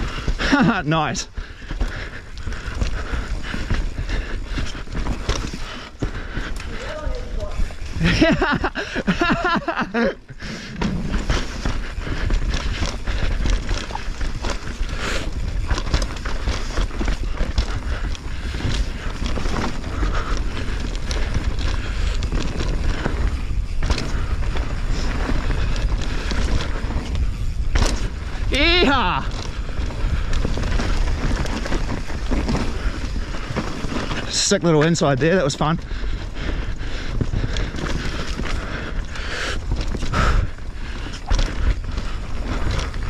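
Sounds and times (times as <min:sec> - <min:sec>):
bike rattling over bumps: 0:00.0 - 0:43.0
wind buffeting microphone: 0:01.3 - 0:43.0.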